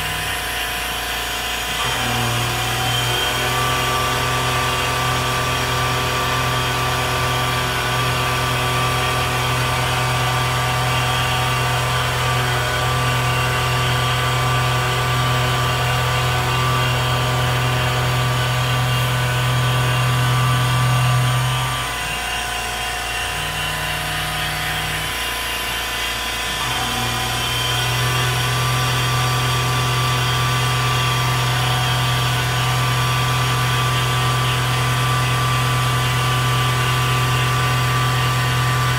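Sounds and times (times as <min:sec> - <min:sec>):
milling machine hum: 0:00.0 - 0:38.9.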